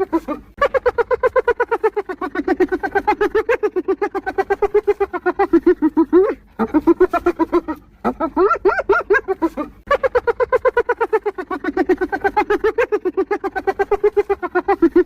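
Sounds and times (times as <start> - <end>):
hyena laughing: 0.0 - 15.0.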